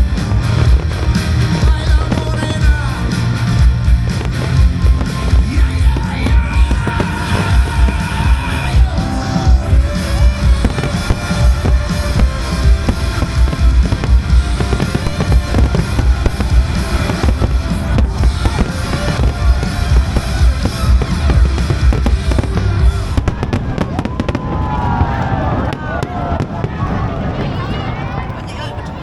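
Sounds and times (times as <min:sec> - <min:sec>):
loud music: 0:00.0 - 0:27.1
fireworks booming and crackling: 0:00.0 - 0:29.0.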